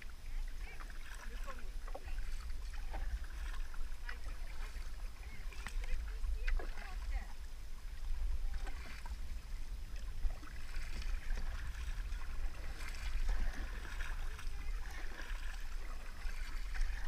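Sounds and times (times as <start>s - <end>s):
paddle splashing water: 0.0s - 17.0s
steady low rumble: 0.0s - 17.0s.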